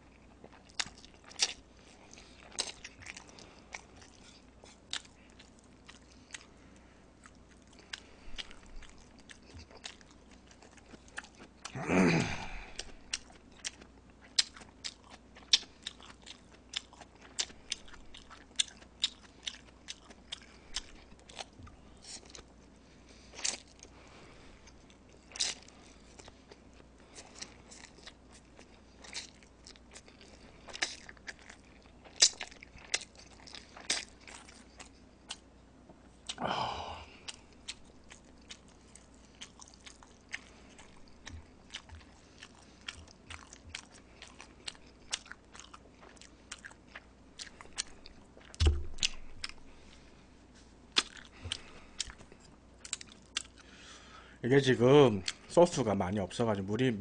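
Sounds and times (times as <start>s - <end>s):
chewing with wet mouth smacks: 0.0s - 11.8s, 12.6s - 35.5s, 37.1s - 50.1s, 50.9s - 54.0s.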